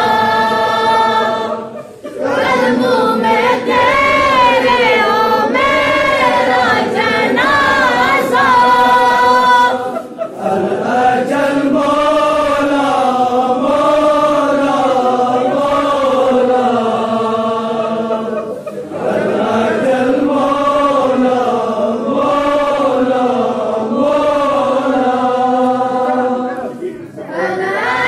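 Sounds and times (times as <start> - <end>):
voices chanting together: 0.0 - 28.0.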